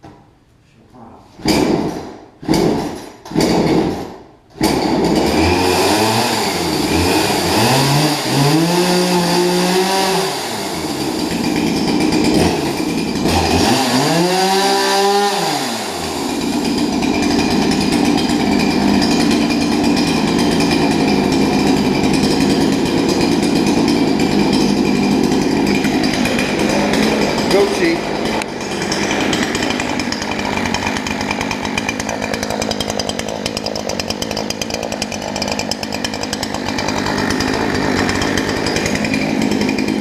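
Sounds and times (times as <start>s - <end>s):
chainsaw starting and revving: 1.4s - 40.0s.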